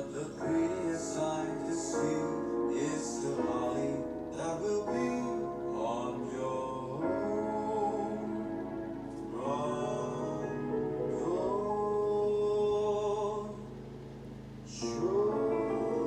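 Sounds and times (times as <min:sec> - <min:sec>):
instrumental backing: 0:00.0 - 0:16.0
slow carol singing: 0:00.0 - 0:16.0.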